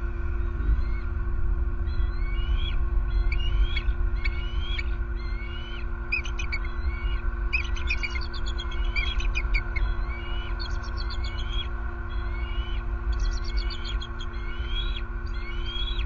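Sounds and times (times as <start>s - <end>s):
low rumble and hum: 0.0s - 16.0s
eagles calling: 2.0s - 16.0s.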